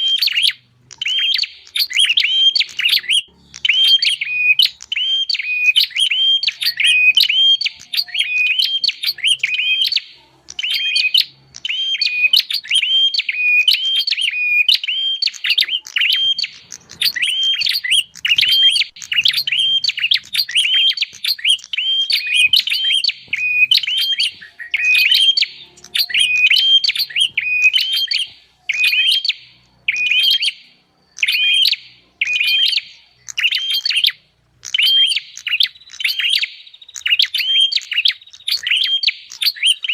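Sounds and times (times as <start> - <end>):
bird chirping in rapid bursts: 0.0 - 39.9.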